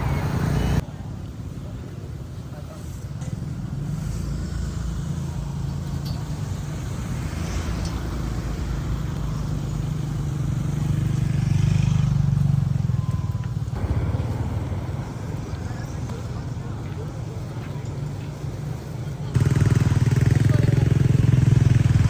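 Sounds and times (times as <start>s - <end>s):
vehicle engine running: 2.1s - 22.0s.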